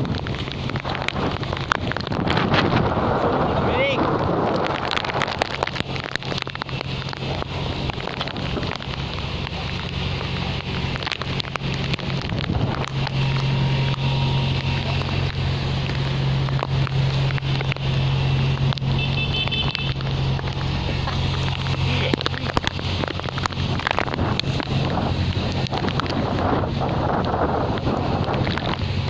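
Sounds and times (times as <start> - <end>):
heavy rain falling: 0.0 - 29.0
low engine hum: 0.0 - 29.0
wind gusts on microphone: 0.0 - 29.0.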